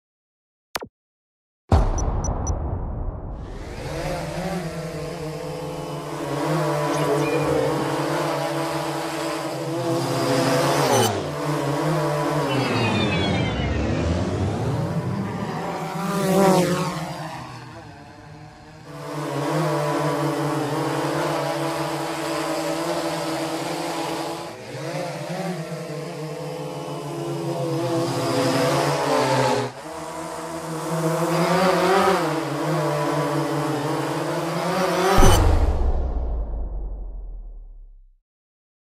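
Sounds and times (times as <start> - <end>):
drone propellers buzzing: 3.4 - 37.9.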